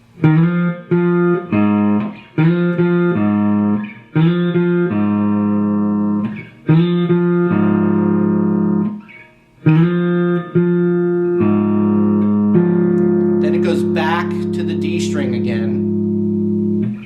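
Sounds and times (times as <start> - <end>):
guitar playing slow low riff: 0.0 - 17.0.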